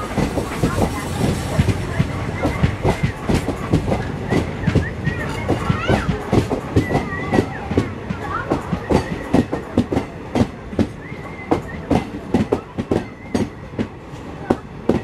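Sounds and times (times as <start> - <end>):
train rumble: 0.0 - 15.0
train wheels clattering: 0.0 - 15.0.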